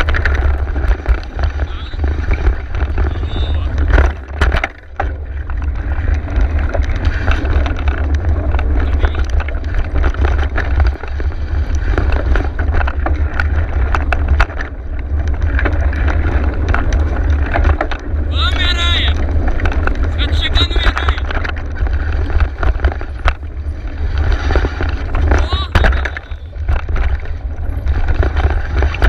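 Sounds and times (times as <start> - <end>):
bike rattling and knocking: 0.0 - 29.0.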